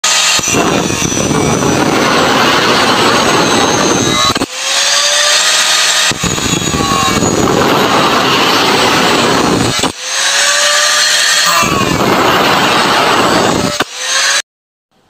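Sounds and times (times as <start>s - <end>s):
angle grinder cutting steel rod: 0.0s - 14.4s.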